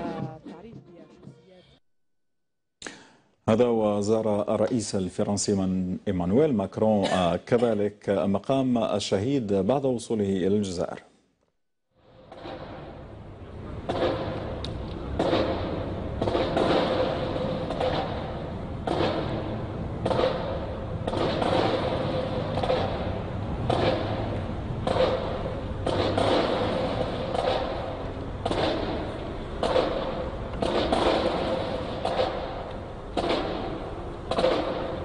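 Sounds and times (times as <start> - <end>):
outdoor background noise: 0.0 - 1.8, 2.8 - 35.0.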